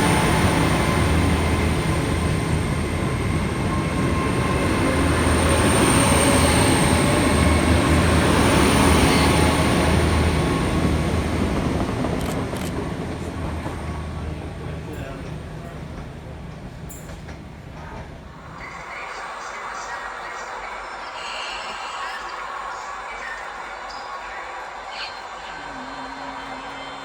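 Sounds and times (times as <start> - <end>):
model train running hum: 0.0 - 27.0.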